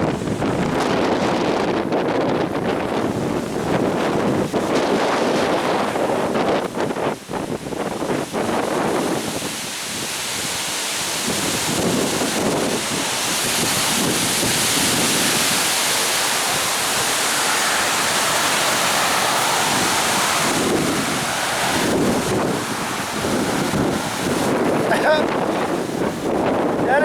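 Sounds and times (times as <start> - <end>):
driving rain: 0.0 - 27.0
gusts buffeting the microphone: 0.0 - 27.0
storm winds roaring: 0.0 - 27.0.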